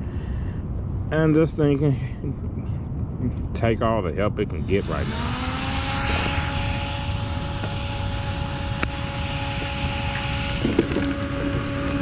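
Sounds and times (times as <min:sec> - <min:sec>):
low rumbling noise: 0:00.0 - 0:12.0
steady mechanical drone: 0:00.0 - 0:12.0.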